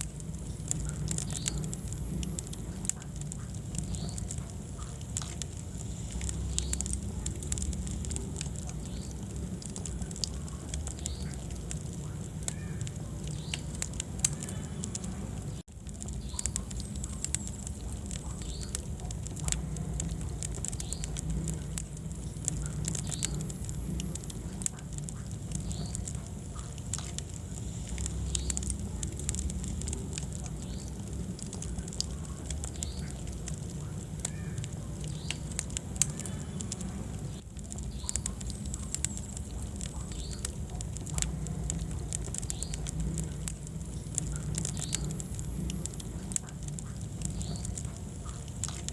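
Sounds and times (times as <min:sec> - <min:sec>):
low rumble of flames: 0:00.0 - 0:48.9
wood fire crackling and popping: 0:00.0 - 0:48.9.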